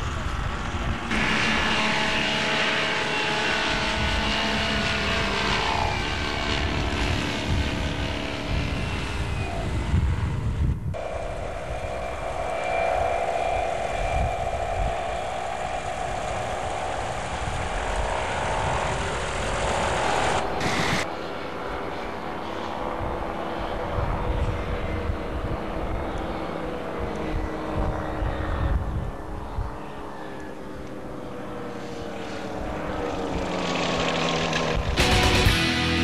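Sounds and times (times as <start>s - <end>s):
ultralight aircraft engines droning: 0.0s - 36.0s.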